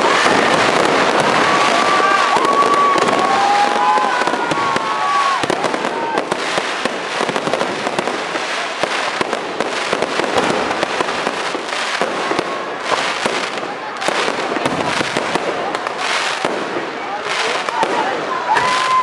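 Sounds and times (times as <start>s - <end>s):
fireworks crackling and popping: 0.0s - 19.0s
fireworks whistling: 0.0s - 19.0s.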